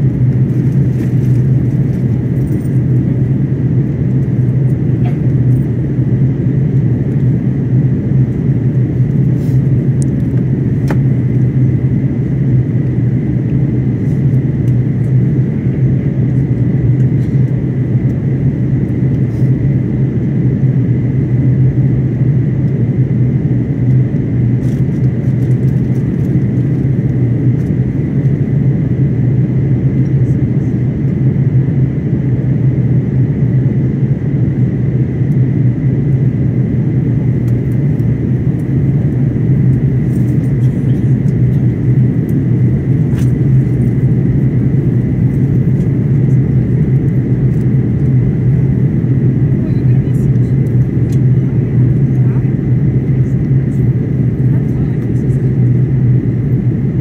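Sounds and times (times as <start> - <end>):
airliner cabin engine drone: 0.0 - 57.0.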